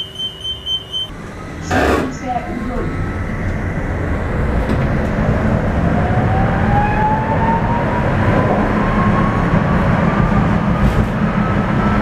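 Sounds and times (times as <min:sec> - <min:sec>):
tram motor and gear whine: 0:00.0 - 0:12.0
tram wheels rumbling on rails: 0:01.1 - 0:12.0.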